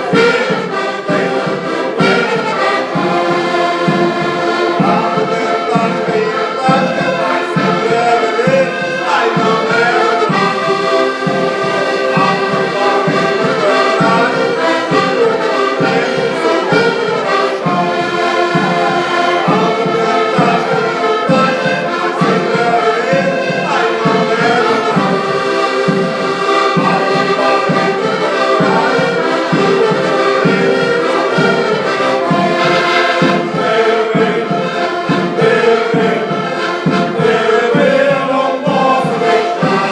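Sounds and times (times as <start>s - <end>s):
group singing with instruments: 0.0s - 39.9s.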